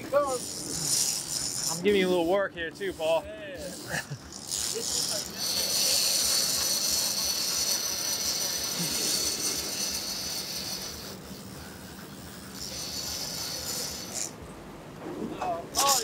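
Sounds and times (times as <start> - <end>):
fishing reel drag buzzing: 0.0 - 14.4, 15.7 - 16.0.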